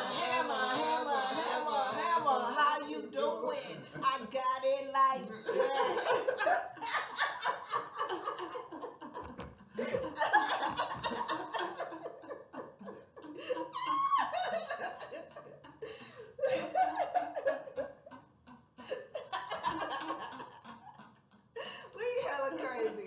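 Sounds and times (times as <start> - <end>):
people laughing: 0.0 - 23.0.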